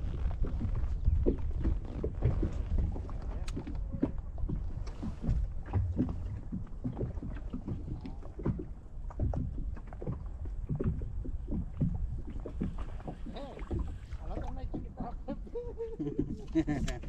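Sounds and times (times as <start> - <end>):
small waves slapping a boat hull: 0.0 - 17.0
steady low rumble: 0.0 - 17.0.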